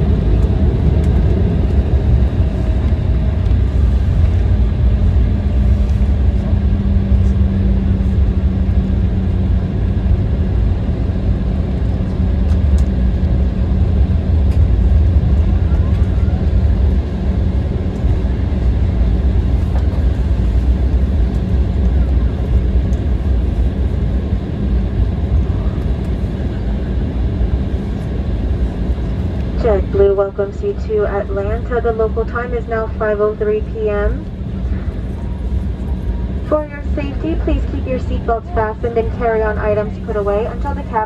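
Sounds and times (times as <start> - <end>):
aircraft cabin rumble: 0.0 - 41.0
steady hum: 0.0 - 41.0.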